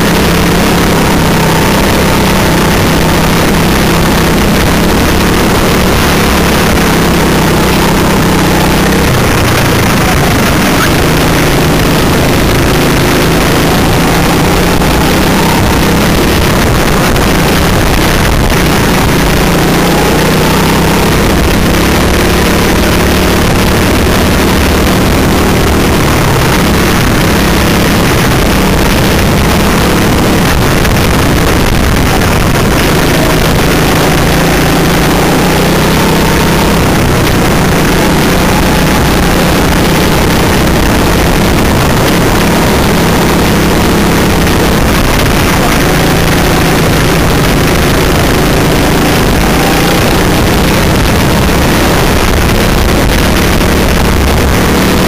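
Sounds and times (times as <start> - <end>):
constant hiss: 0.0 - 54.9
go-kart engine drone: 0.0 - 55.0.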